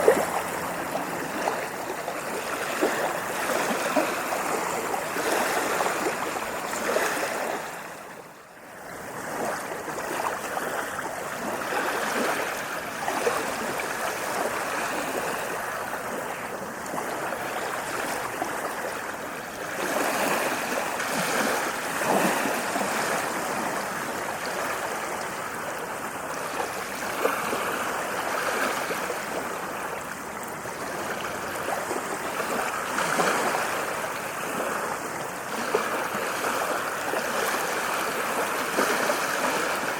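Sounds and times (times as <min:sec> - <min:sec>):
ocean waves on sandy beach: 0:00.0 - 0:39.9.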